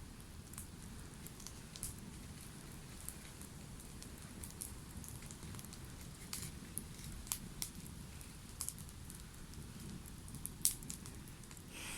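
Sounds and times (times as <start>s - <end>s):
campfire crackling and popping: 0.0s - 11.9s.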